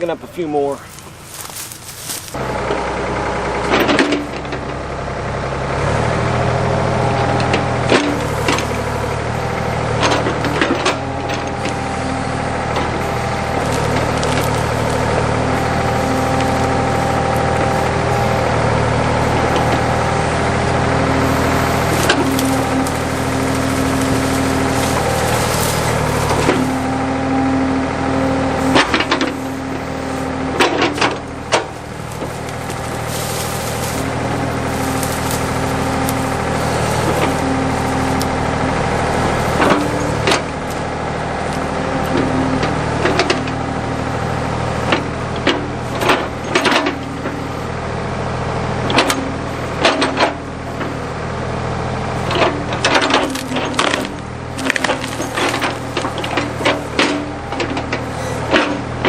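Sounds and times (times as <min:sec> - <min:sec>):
roots and wood snapping: 0:00.0 - 0:02.6, 0:07.1 - 0:47.6, 0:52.1 - 0:59.0
backhoe engine under load: 0:00.0 - 0:59.0.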